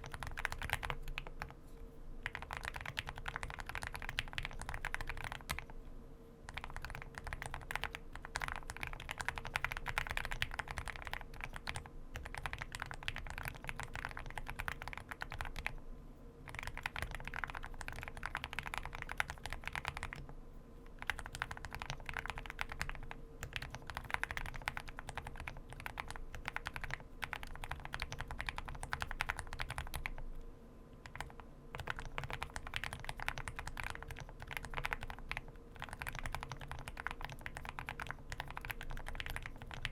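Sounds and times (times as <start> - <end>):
mechanical keyboard typing: 0.0 - 1.6, 2.2 - 5.8, 6.5 - 15.8, 16.5 - 20.3, 21.0 - 30.2, 31.0 - 39.9.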